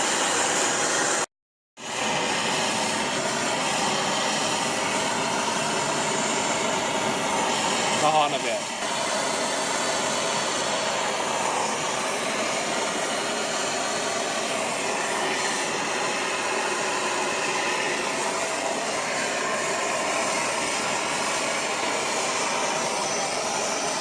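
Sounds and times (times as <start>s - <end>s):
torch flame hissing: 0.0s - 24.0s.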